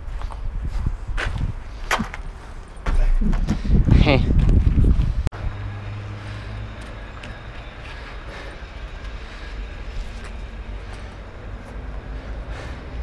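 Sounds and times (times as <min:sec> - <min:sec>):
low outdoor rumble: 0:02.3 - 0:13.0.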